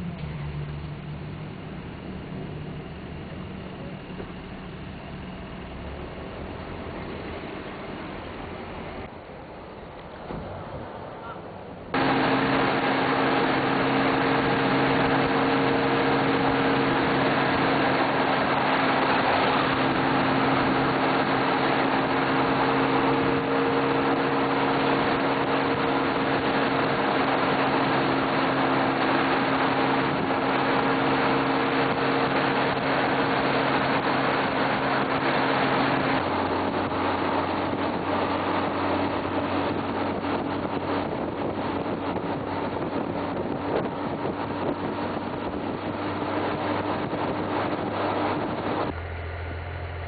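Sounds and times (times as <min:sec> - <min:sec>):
motorcycle engine drone: 0:00.0 - 0:50.0
wind rush on microphone: 0:06.1 - 0:49.2.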